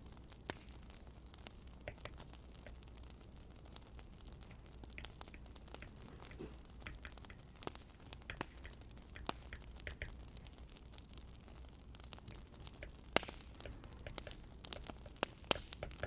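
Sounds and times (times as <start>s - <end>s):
soft steady hiss: 0.0s - 16.0s
wood fire crackling: 0.0s - 16.0s.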